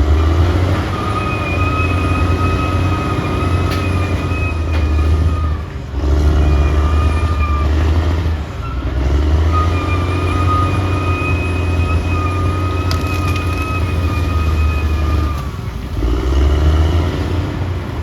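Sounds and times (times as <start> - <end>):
bulldozer diesel engine under load: 0.0 - 18.0.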